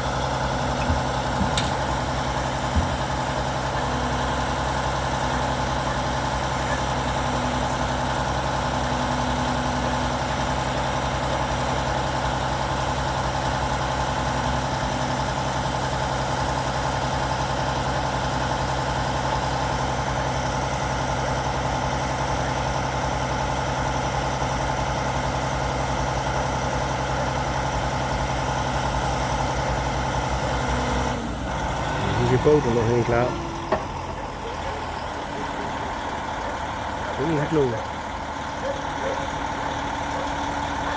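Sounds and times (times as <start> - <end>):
wood chipper engine running: 0.0 - 40.9.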